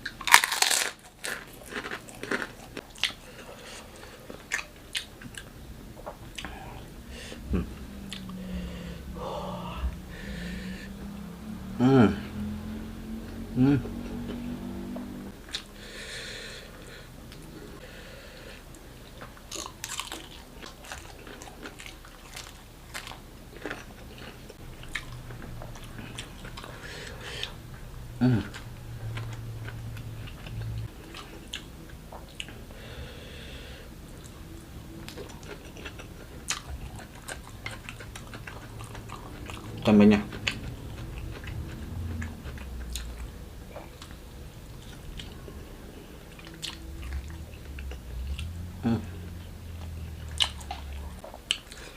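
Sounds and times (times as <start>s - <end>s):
person chewing crunchy food: 0.0s - 10.6s, 18.7s - 32.8s, 34.1s - 48.6s, 49.2s - 51.9s.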